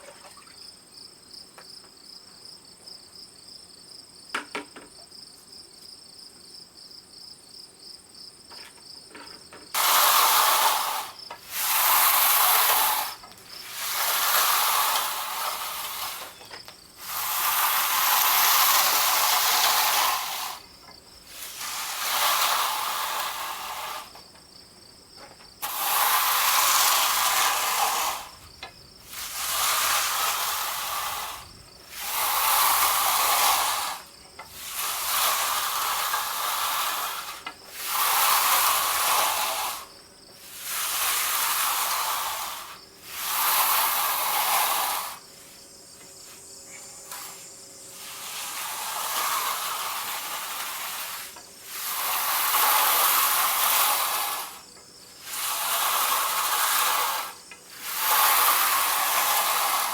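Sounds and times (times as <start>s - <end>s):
insects chirping: 0.0s - 59.9s
hissing spray bursts: 9.8s - 24.2s, 25.6s - 59.9s.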